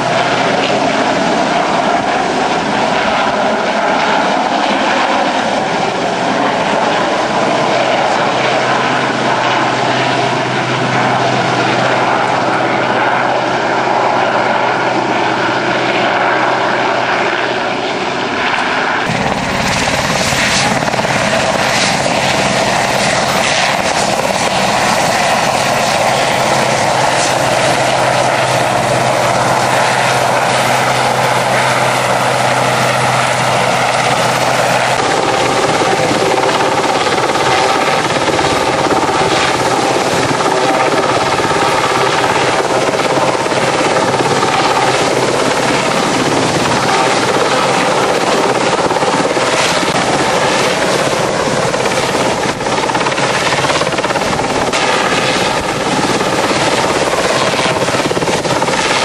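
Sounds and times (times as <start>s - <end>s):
helicopter rotors and engines: 0.0s - 59.0s.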